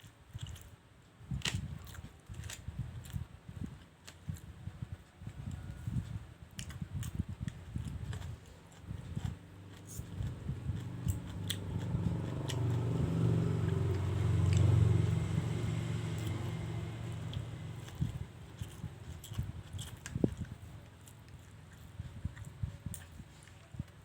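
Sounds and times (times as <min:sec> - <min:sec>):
chewing noodles: 0:01.8 - 0:24.0.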